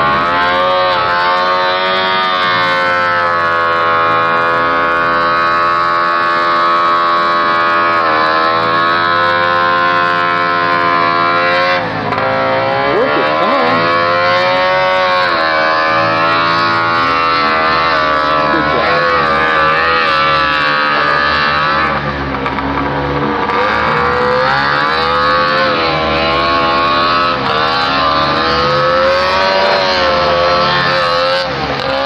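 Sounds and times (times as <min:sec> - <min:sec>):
two-stroke engine revving: 0:00.0 - 0:32.0.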